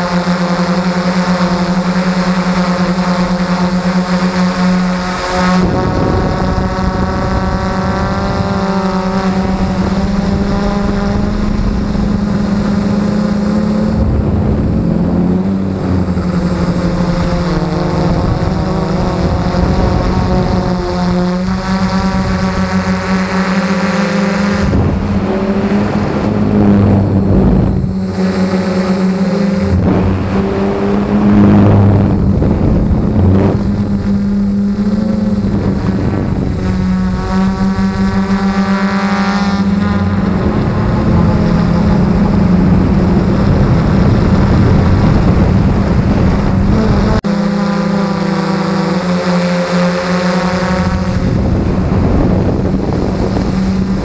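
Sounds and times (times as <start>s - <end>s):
quadcopter motors buzzing: 0.0s - 54.0s.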